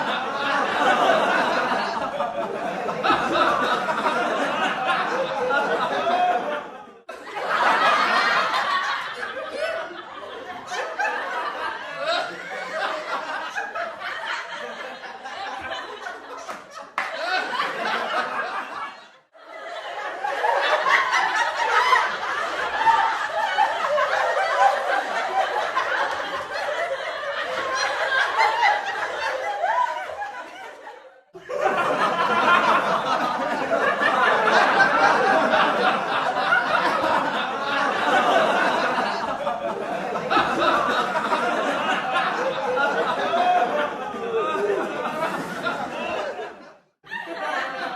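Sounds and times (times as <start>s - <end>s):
studio audience laughing: 0.0s - 47.9s.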